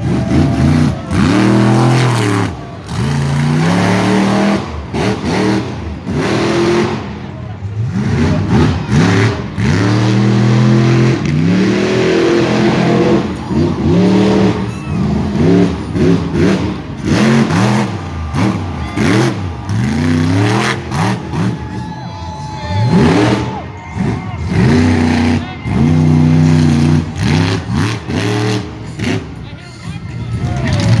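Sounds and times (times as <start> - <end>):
monster truck engine revving: 0.0 - 31.0.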